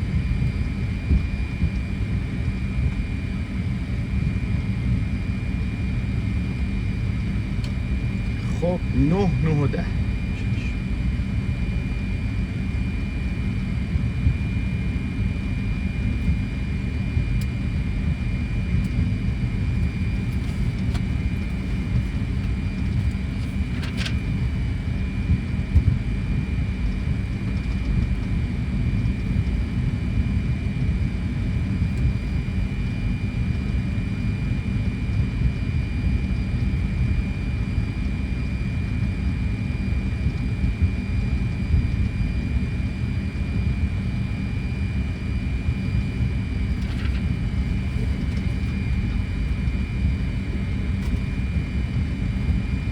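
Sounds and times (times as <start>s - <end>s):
aircraft engine rumble: 0.0s - 52.9s.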